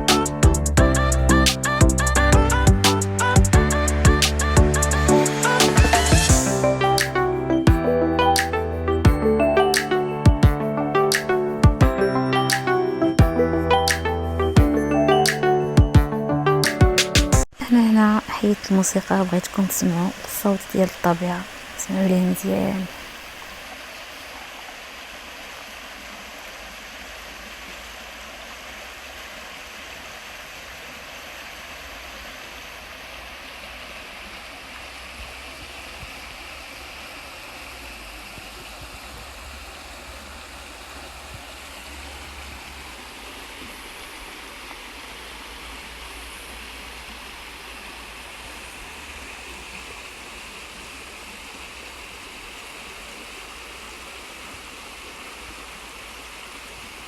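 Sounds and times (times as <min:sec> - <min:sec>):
water rushing: 0:02.9 - 0:15.9, 0:16.5 - 0:57.0.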